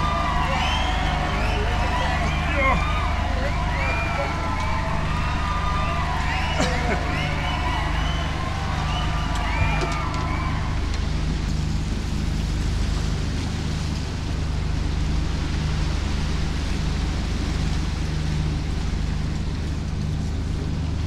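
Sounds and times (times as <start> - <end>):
constant low hum: 0.0 - 21.0
steady wind: 0.0 - 21.0
water rushing past boat: 0.0 - 21.0.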